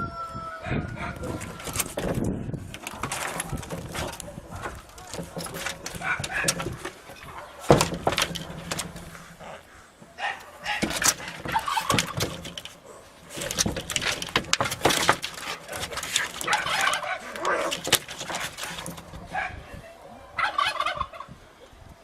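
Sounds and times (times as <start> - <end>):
cats scuffling: 1.2 - 19.5.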